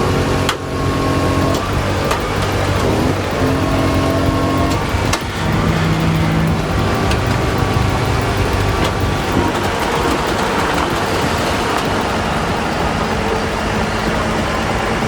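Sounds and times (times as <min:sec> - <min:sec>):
road and tyre noise: 0:00.0 - 0:15.0
truck diesel engine running: 0:00.0 - 0:15.0.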